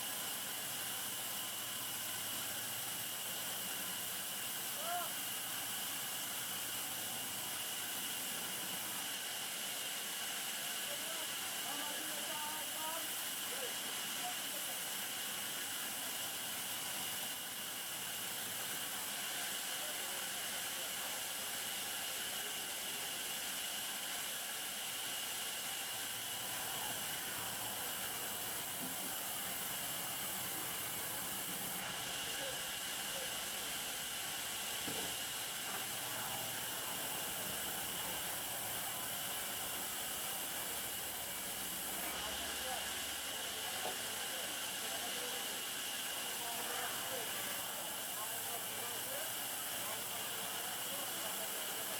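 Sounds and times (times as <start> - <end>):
steady hiss: 0.0 - 51.9.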